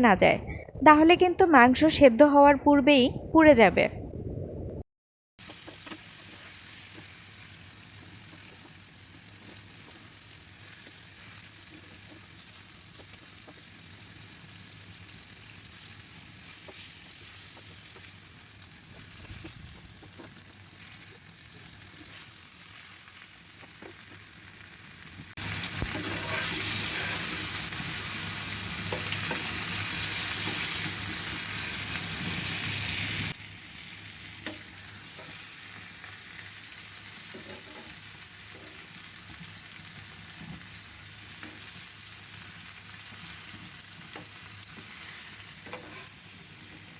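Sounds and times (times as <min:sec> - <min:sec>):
chicken sizzling in a frying pan: 0:05.4 - 0:46.9.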